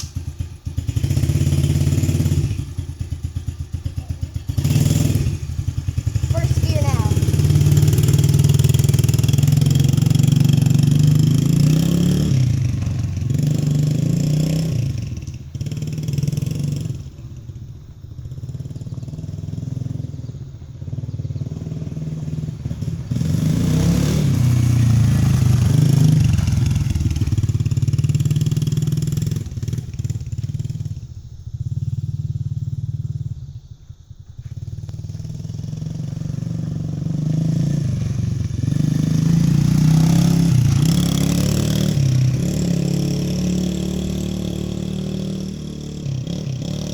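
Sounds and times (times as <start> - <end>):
dirt bike engine revving: 0.0 - 17.1, 18.4 - 31.0, 34.6 - 46.9.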